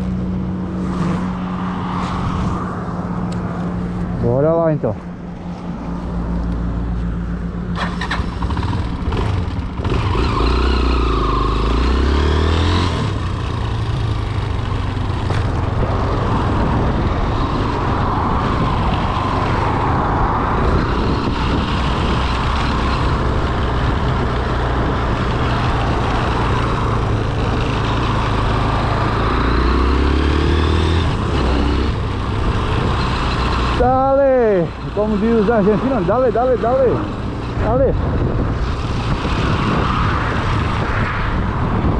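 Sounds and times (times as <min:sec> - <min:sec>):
motorcycle engine revving: 0:00.0 - 0:03.7, 0:07.7 - 0:19.8, 0:20.4 - 0:41.4
road and wind noise: 0:00.0 - 0:41.9.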